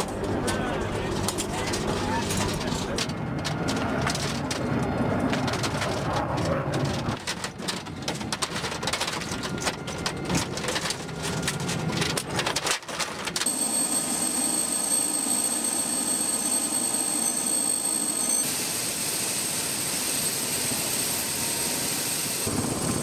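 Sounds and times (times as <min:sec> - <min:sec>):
helicopter turbine whine: 0:00.0 - 0:12.5, 0:13.3 - 0:23.0.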